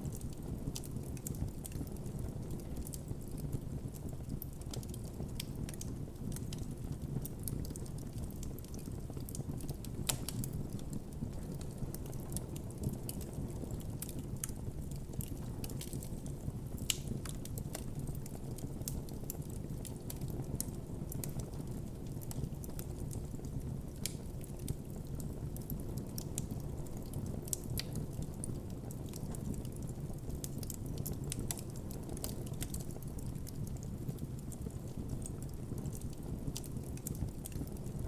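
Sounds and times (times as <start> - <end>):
campfire burning and crackling: 0.0 - 38.0.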